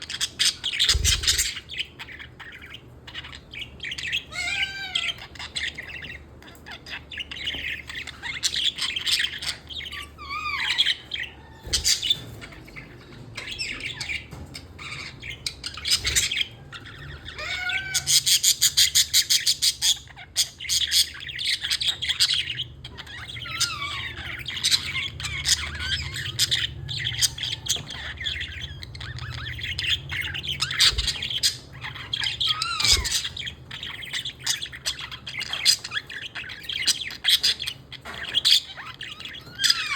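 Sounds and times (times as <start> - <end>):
budgerigar chattering and warbling: 0.0 - 39.9.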